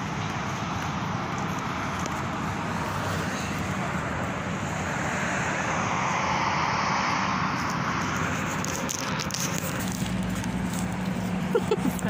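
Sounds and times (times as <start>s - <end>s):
steady rushing noise: 0.0s - 11.6s.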